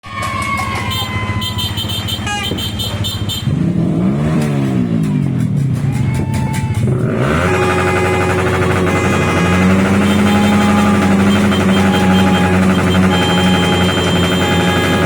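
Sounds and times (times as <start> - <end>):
motorcycle engine idling and revving: 0.3 - 15.0.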